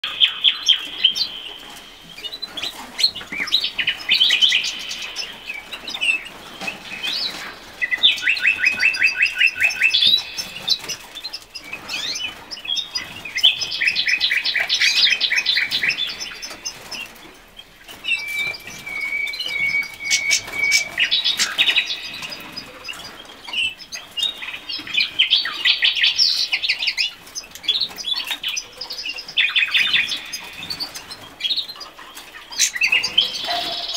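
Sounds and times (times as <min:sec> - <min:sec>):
cage birds trilling: 0:00.0 - 0:33.9.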